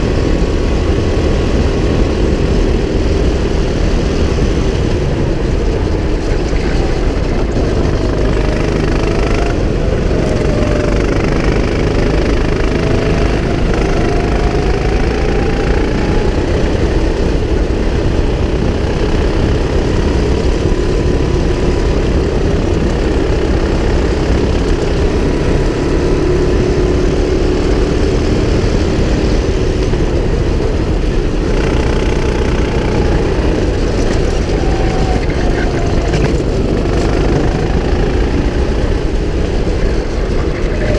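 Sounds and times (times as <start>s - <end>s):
go-kart engine running: 0.0s - 40.9s
steady rush of noise: 0.0s - 40.9s.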